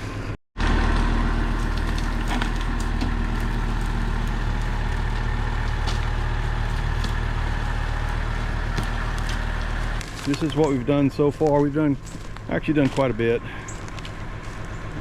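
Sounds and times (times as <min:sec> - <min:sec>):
tractor diesel engine running: 0:00.0 - 0:15.0
bamboo cracking and snapping: 0:00.8 - 0:13.1, 0:13.8 - 0:14.7.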